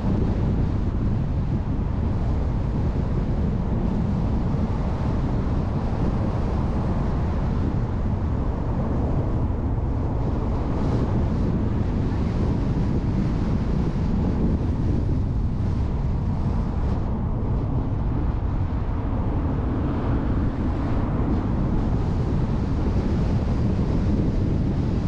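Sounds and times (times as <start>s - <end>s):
car road and engine noise: 0.0s - 25.0s
wind rumble on microphone: 0.0s - 25.0s.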